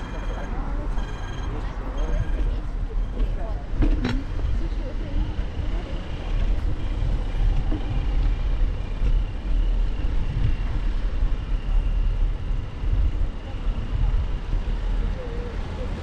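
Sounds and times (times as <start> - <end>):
wind buffeting microphone: 1.7 - 16.0.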